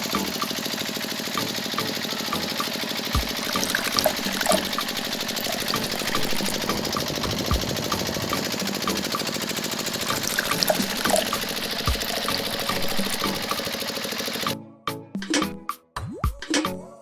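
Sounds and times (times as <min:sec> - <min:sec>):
small motor rattling: 0:00.0 - 0:14.6.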